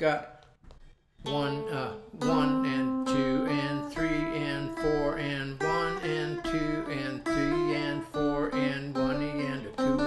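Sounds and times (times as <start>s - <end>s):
electric guitar playing a scale: 1.3s - 10.0s.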